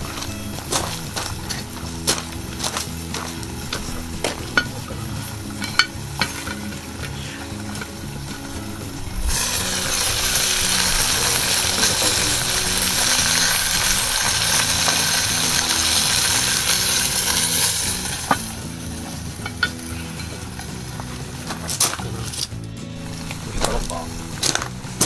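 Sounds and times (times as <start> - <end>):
chicken sizzling in a pot: 0.0 - 25.0.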